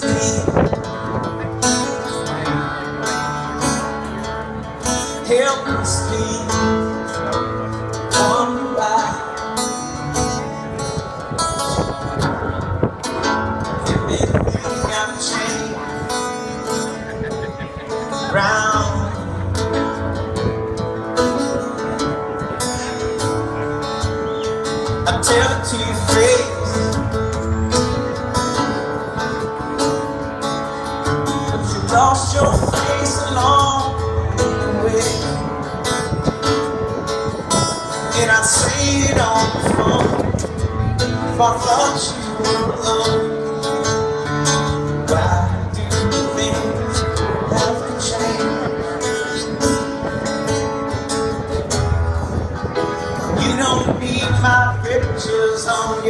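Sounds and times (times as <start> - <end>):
acoustic band music: 0.0 - 56.0
keyboard: 0.0 - 56.0
man singing: 0.0 - 56.0
strummed acoustic guitar: 0.0 - 56.0.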